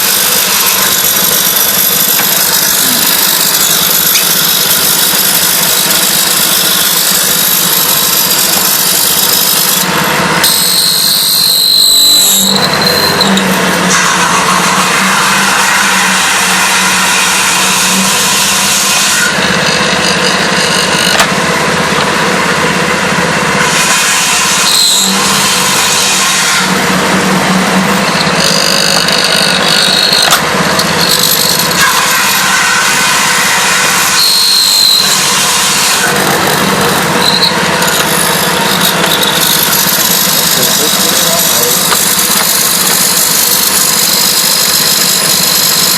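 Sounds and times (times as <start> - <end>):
motor hum: 0.0 - 14.0, 17.9 - 31.9, 33.4 - 45.9
drill bit rasping into wood: 0.0 - 15.5, 17.6 - 21.3, 23.7 - 33.2, 33.8 - 45.9.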